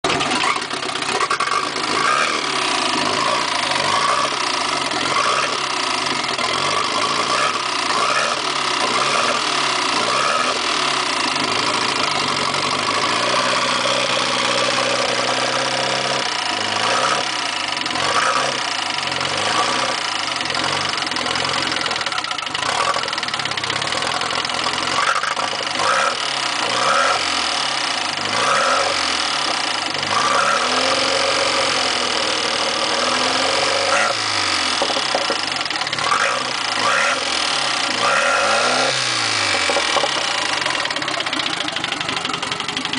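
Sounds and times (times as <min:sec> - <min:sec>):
car engine idling unevenly: 0:00.0 - 0:42.9
engine ticking: 0:00.0 - 0:42.9.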